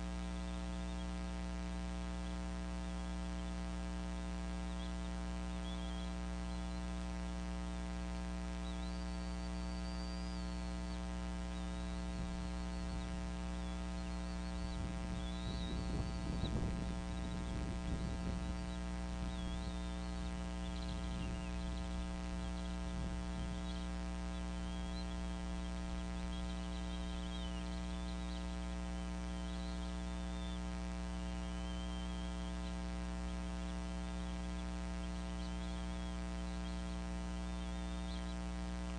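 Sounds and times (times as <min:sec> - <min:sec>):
electrical mains hum: 0:00.0 - 0:38.9
faint high wavering chirps: 0:00.0 - 0:38.9.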